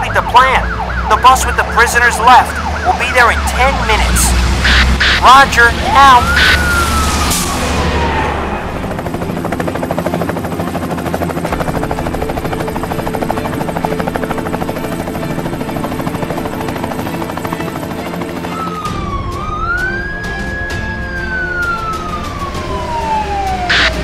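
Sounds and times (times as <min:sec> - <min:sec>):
police siren wailing: 0:00.0 - 0:10.4, 0:13.3 - 0:24.0
background music: 0:00.0 - 0:24.0
helicopter rotor chopping: 0:00.0 - 0:24.0.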